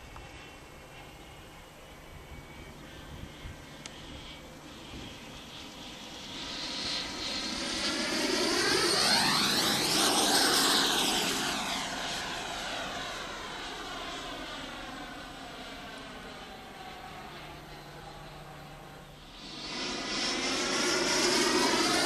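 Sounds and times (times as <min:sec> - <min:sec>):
model jet fan whine: 0:00.0 - 0:22.0.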